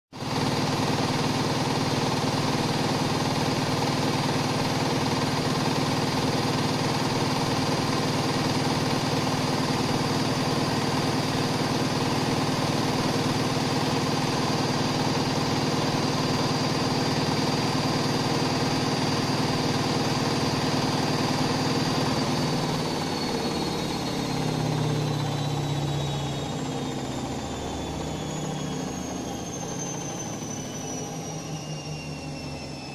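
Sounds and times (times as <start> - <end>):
washing machine spinning: 0.1 - 32.9.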